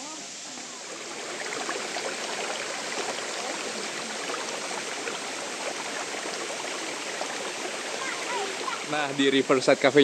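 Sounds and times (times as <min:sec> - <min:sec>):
mountain stream flowing: 0:00.0 - 0:10.0.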